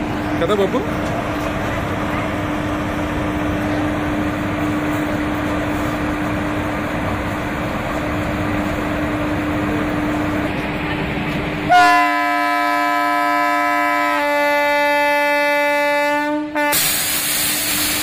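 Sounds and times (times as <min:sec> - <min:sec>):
standing electric train humming: 0:00.0 - 0:18.0.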